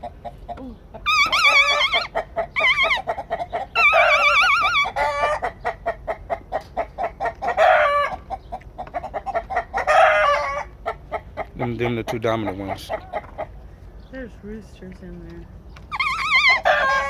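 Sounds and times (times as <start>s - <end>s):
chickens trilling and clucking: 0.0s - 14.0s, 15.6s - 17.0s.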